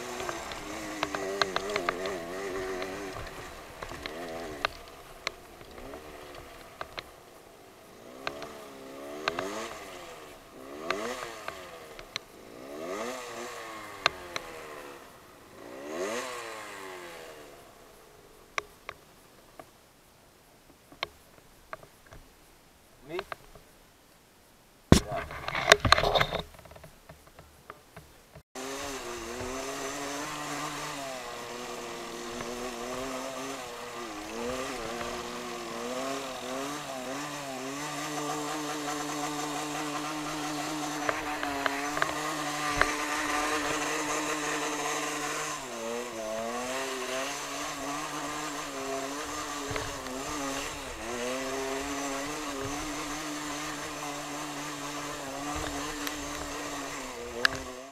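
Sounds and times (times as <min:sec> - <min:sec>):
small motorcycle engine revving: 0:00.0 - 0:19.0, 0:28.6 - 0:57.9.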